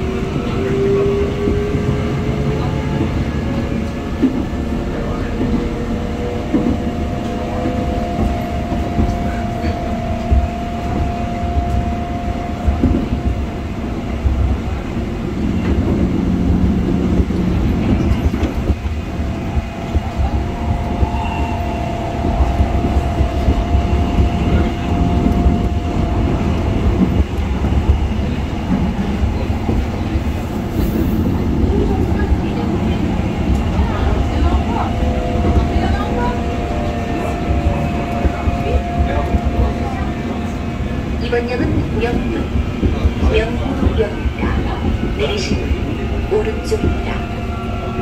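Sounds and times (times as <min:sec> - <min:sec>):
steady train whine: 0:00.0 - 0:48.0
train running rumble: 0:00.0 - 0:48.0.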